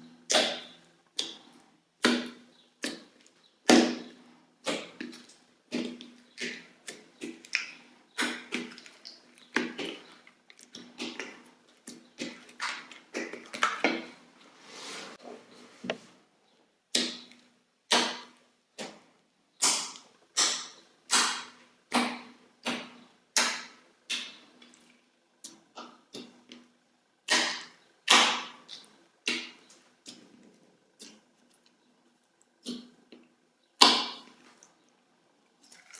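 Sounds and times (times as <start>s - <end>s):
slime squelch: 0.0s - 16.3s, 16.9s - 35.9s.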